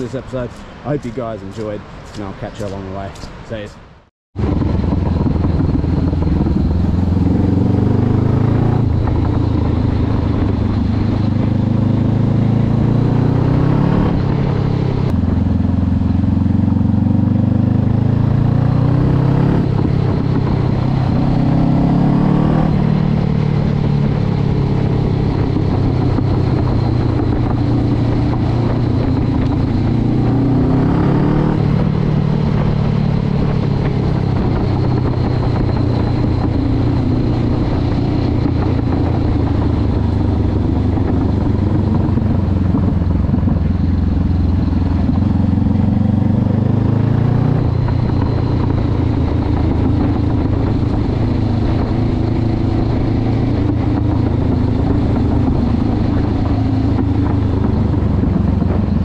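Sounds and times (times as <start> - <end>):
motorcycle engine revving: 4.4 - 59.0.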